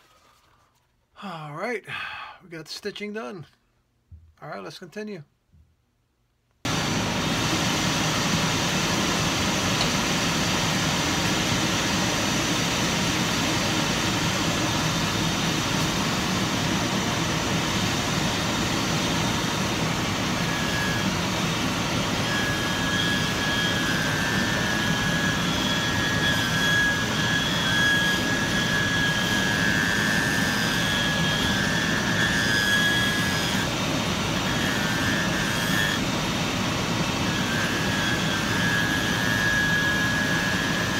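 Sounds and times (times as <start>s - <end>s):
electric machine motor running: 6.7s - 40.9s
high-pitched whine: 6.7s - 40.9s.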